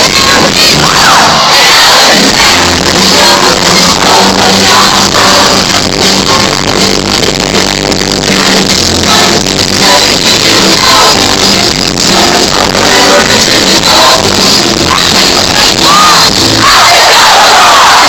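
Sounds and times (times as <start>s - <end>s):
crowd yelling along: 0.0s - 7.1s, 8.3s - 18.0s
live rock band with singing: 0.0s - 18.0s.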